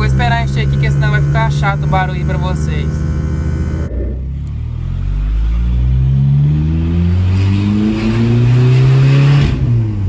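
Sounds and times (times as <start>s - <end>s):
pickup engine accelerating: 0.0s - 10.0s.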